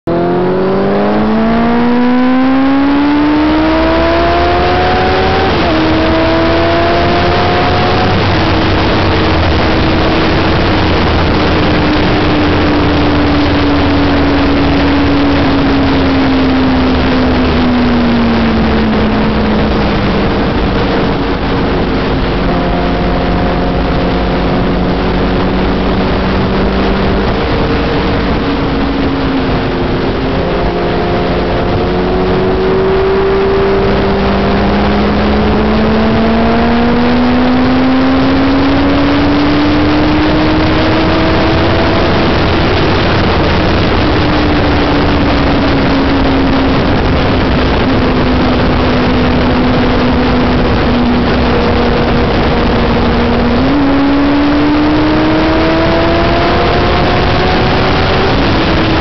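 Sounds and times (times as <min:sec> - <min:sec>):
motorcycle engine revving: 0:00.0 - 0:59.0
wind rush over microphone: 0:00.0 - 0:59.0.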